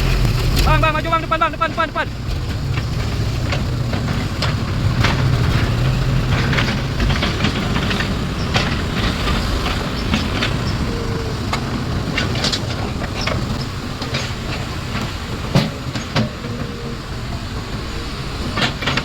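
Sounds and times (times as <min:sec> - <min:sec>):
diesel machinery rumbling: 0:00.0 - 0:19.0
metallic clanks and knocks: 0:00.0 - 0:19.0.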